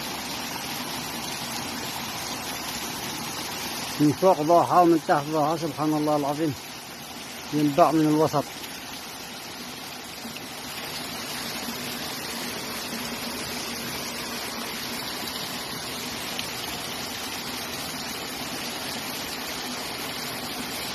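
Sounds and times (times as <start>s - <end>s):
spring water gushing over rocks: 0.0s - 20.9s.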